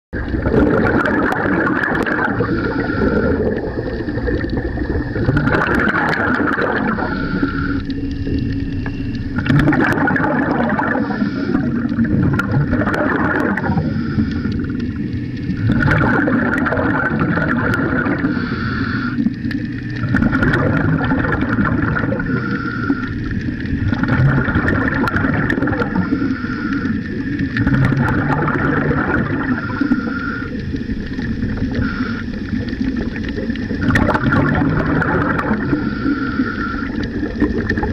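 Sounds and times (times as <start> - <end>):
underwater air bubbles gurgling: 0.2 - 37.9.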